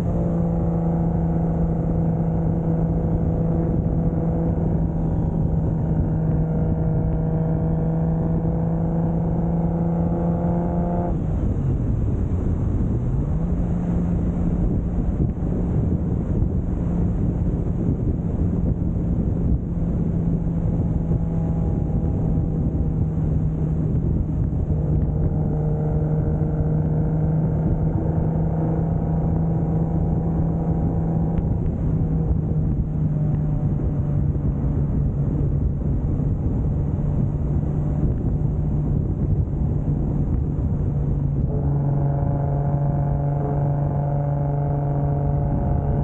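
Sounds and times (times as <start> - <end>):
car engine cruising: 0.0 - 46.0.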